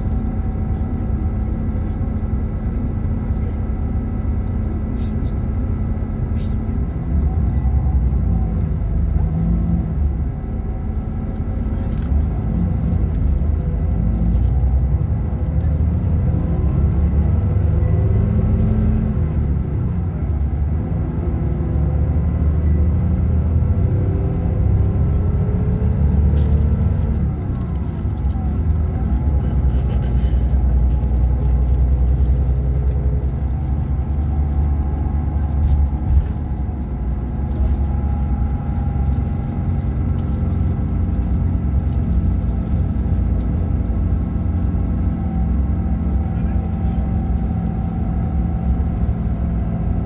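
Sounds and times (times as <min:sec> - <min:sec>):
road noise: 0:00.0 - 0:50.0
vehicle engine rumble: 0:00.0 - 0:50.0.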